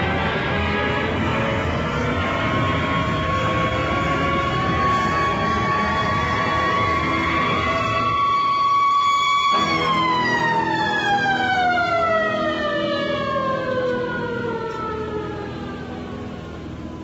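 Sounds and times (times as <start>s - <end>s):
low steady drone: 0.0s - 17.0s
siren-like electronic tone: 0.0s - 17.0s.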